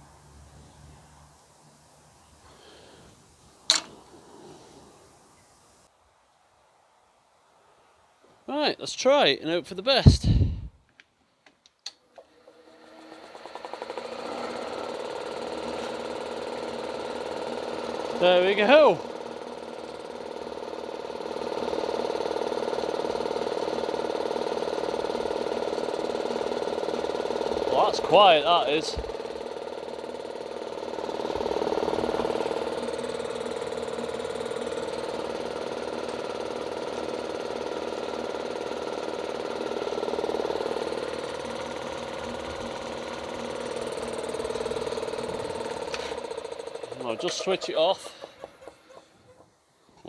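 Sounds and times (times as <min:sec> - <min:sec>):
air compressor running: 0:00.0 - 0:05.9, 0:10.0 - 0:10.8, 0:12.0 - 0:49.6.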